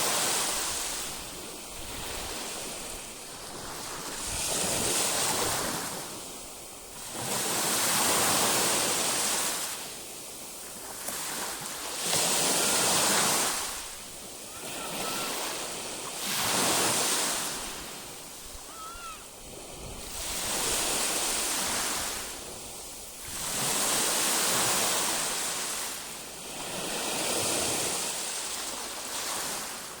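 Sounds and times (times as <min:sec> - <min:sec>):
sea waves breaking: 0:00.0 - 0:30.0.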